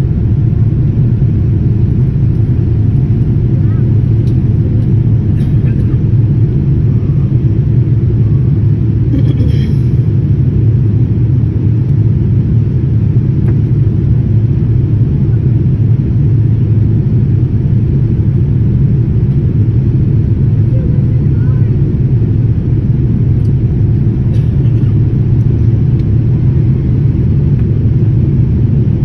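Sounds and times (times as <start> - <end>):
airliner cabin roar: 0.0 - 29.0.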